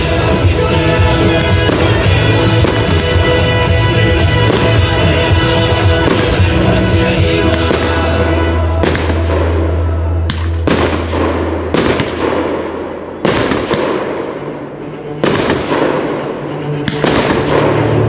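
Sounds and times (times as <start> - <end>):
fireworks bangs: 0.0 - 18.0
fireworks crackling: 0.0 - 18.0
music playing: 0.0 - 18.0.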